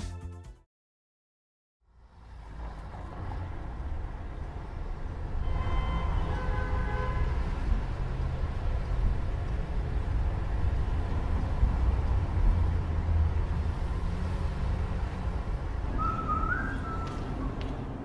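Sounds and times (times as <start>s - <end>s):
city traffic rumble: 1.8s - 18.0s.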